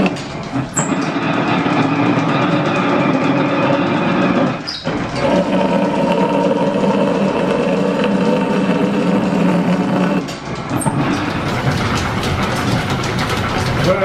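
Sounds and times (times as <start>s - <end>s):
machine tool cutting: 0.0s - 14.0s.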